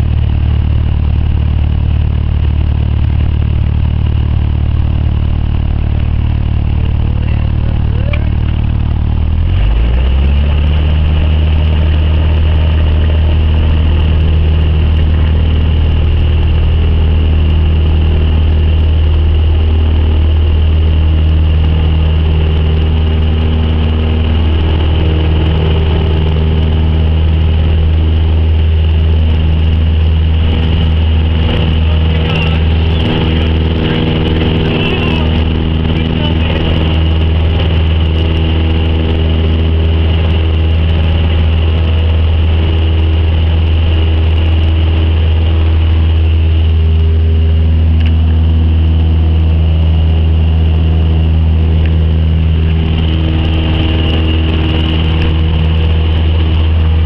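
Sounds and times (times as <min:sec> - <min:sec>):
aircraft piston engine and propeller: 0:00.0 - 0:57.0.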